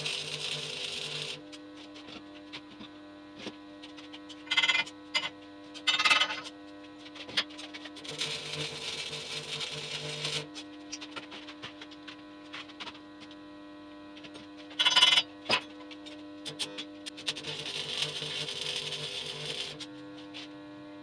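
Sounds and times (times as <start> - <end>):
crackling buzzing welding arc: 0.0 - 13.5, 14.2 - 20.8
steady hum: 0.0 - 21.0.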